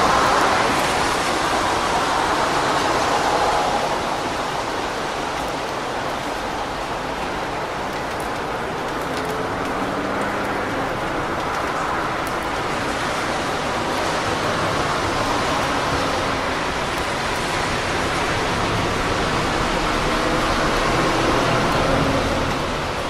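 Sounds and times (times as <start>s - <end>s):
car tyres hissing on wet road: 0.0s - 23.0s
steady rain: 0.0s - 23.0s.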